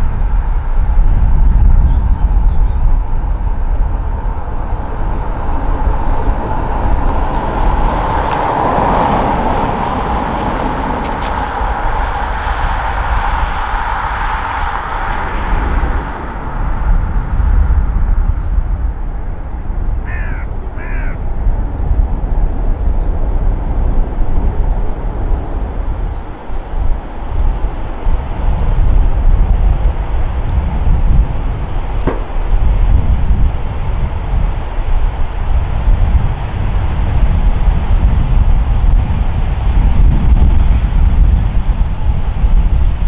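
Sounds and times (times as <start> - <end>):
low rumble: 0.0 - 34.5
turboprop engines humming: 0.0 - 43.0.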